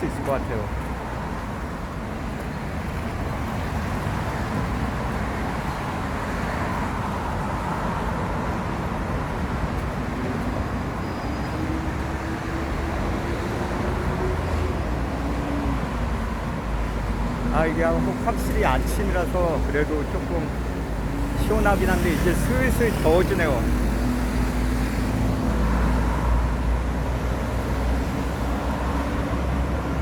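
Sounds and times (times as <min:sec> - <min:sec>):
passing cars and buses: 0:00.0 - 0:30.0.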